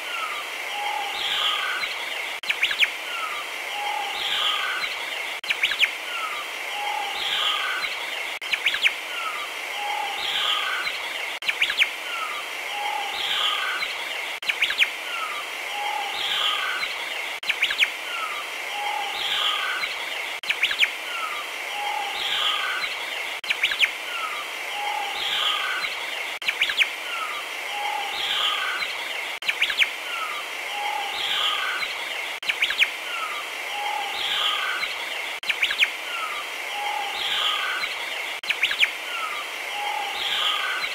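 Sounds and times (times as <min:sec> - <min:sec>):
birds chirping: 0:00.0 - 0:40.9
steady high hiss: 0:00.0 - 0:40.9.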